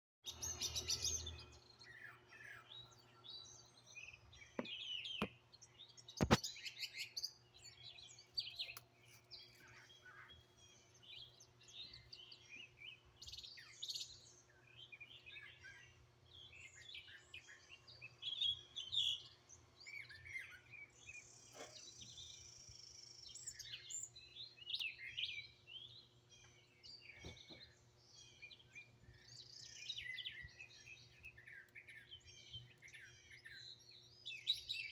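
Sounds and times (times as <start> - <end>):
songbirds chirping and singing: 0.2 - 34.9.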